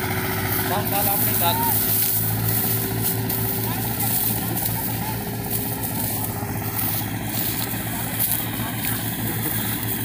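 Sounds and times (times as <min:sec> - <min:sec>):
diesel tractor engine under load: 0:00.0 - 0:10.0.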